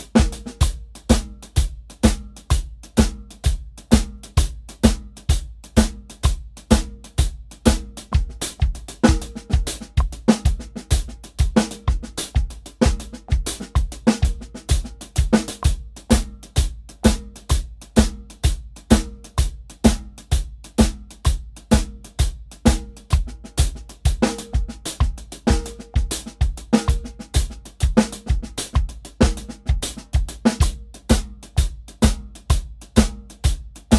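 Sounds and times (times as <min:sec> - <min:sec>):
bass drum: 0:00.0 - 0:33.9
snare drum: 0:00.0 - 0:33.9.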